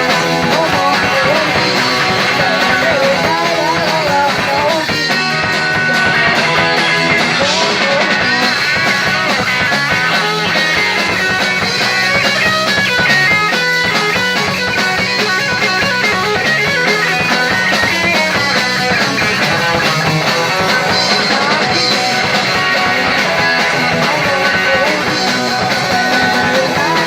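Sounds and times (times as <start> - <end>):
electric guitar lead line: 0.0 - 27.0
punk rock band playing live: 0.0 - 27.0.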